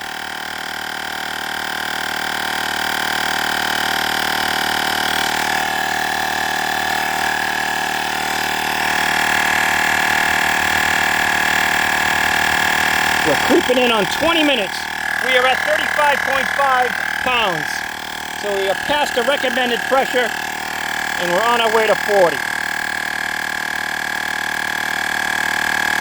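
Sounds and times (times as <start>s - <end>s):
air compressor running: 0.0s - 26.0s.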